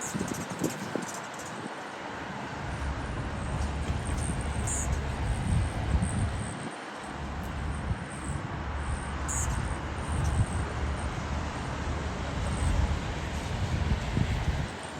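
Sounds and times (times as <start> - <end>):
wind buffeting microphone: 0.0 - 1.8, 2.6 - 14.9.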